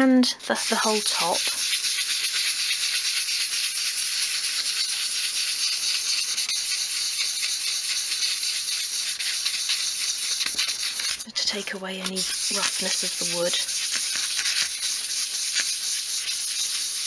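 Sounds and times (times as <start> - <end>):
sandpaper rubbing on wood: 0.4 - 17.0.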